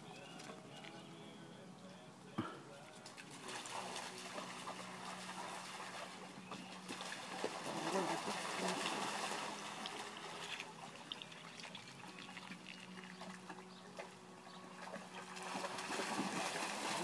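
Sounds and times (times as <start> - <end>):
dogs splashing through water: 3.0 - 17.0.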